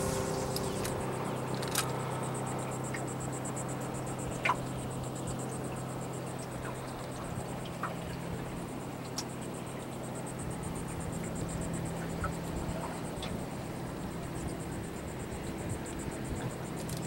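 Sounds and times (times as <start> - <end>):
insects trilling: 0.0 - 17.0
steady low hum: 0.0 - 17.0.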